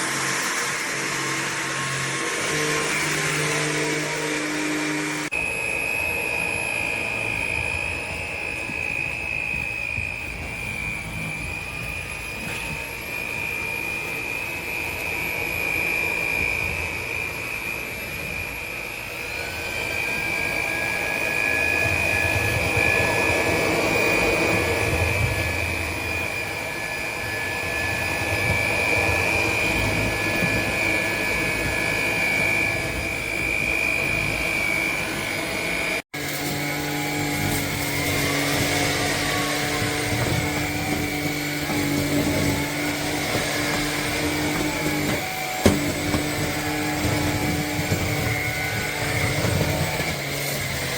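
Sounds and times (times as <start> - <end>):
vacuum cleaner motor whine: 0.0 - 50.9.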